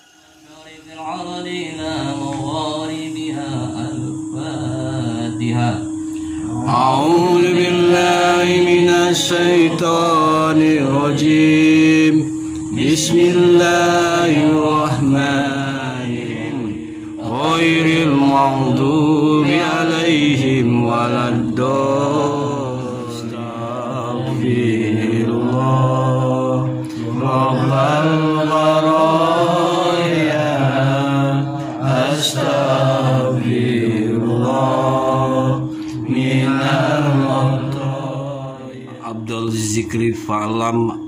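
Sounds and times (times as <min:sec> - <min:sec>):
men chanting a prayer: 0:00.0 - 0:41.0.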